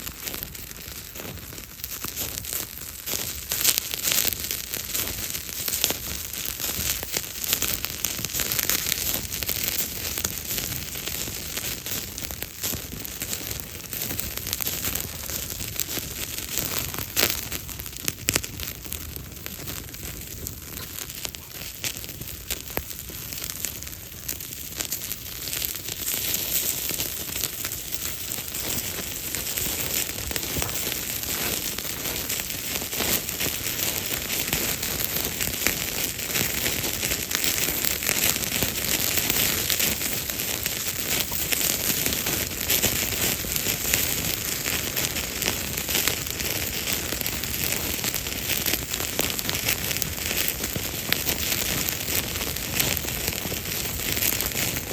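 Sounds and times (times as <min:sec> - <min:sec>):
campfire crackling and popping: 0:00.0 - 0:54.9
fire hissing: 0:00.0 - 0:54.9.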